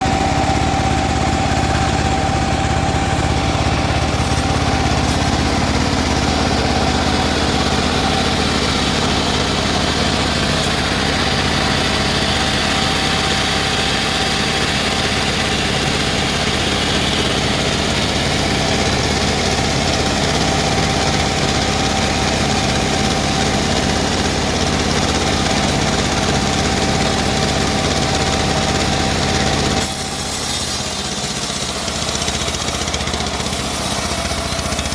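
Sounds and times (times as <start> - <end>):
bandsaw running: 0.0 - 34.9.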